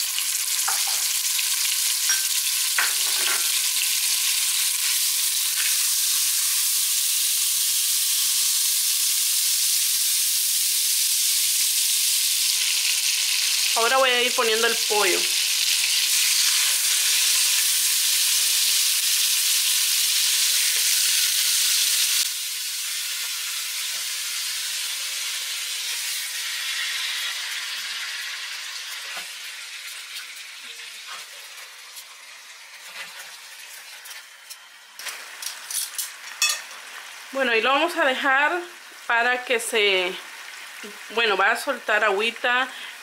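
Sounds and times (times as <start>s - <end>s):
oil sizzling in a pot: 0.0s - 43.0s.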